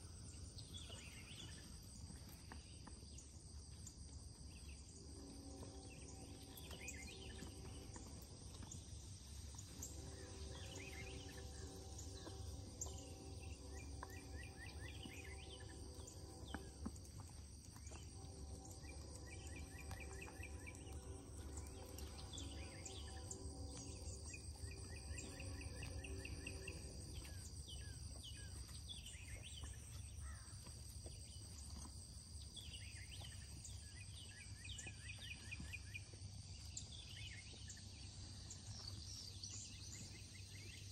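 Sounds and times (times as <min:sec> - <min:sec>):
high insect chorus: 0:00.0 - 0:40.9
steady low hum: 0:00.0 - 0:40.9.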